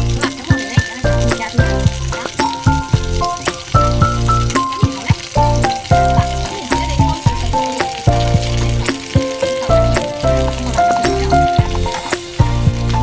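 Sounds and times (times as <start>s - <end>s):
chicken wings sizzling in a pan: 0.0s - 13.0s
plucky background music with bass beat: 0.0s - 13.0s.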